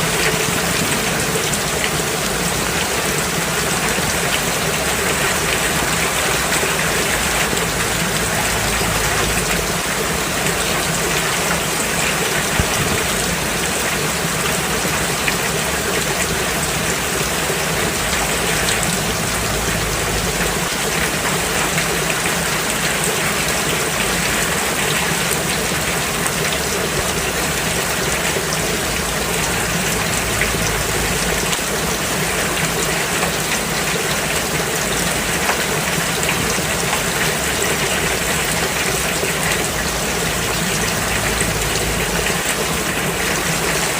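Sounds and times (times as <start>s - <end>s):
rain falling on a road: 0.0s - 43.9s.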